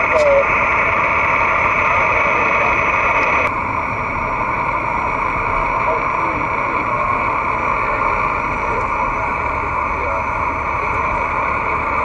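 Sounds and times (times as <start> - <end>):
faint wavering radio signals: 0.0 - 12.0
radio static hiss: 0.0 - 12.0.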